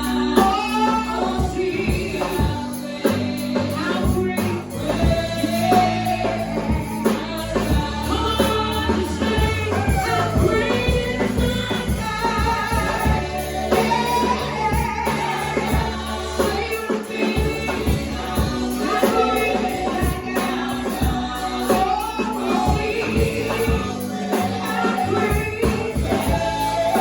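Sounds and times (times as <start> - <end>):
gospel singers with band: 0.0 - 27.0.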